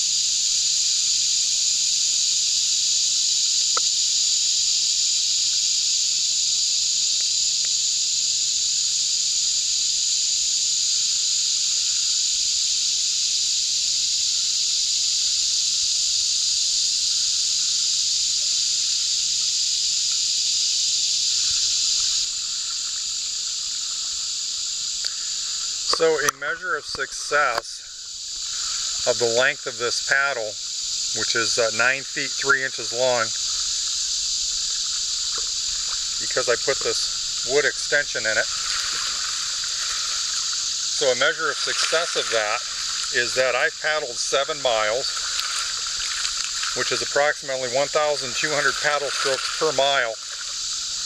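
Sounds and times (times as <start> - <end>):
high-pitched insect chorus: 0.0 - 51.0.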